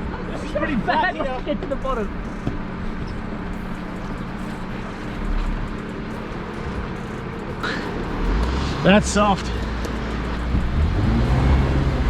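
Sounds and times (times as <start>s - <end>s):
vehicle engine running at low speed: 0.0s - 12.0s.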